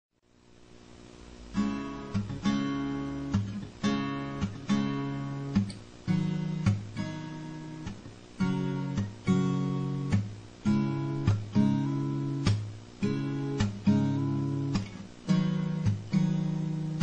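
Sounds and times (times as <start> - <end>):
acoustic guitar strumming chords: 1.3 - 17.0.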